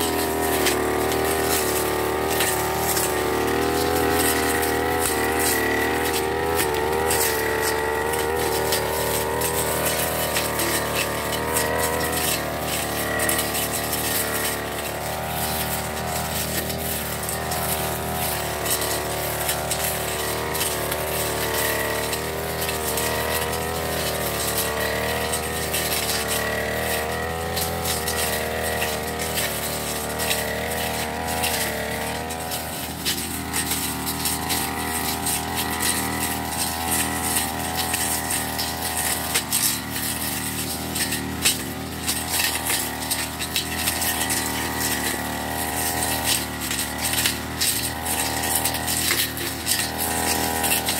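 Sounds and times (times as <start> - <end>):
brush cutter engine: 0.0 - 50.9.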